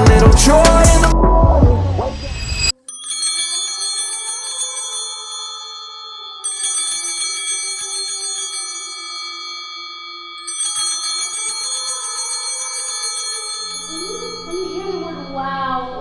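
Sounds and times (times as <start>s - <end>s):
bell-like chiming tones: 2.0s - 16.0s.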